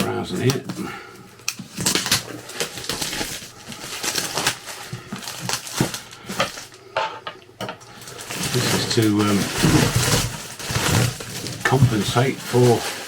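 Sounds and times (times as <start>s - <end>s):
cardboard packaging rustling: 0.0s - 6.8s, 7.9s - 13.0s.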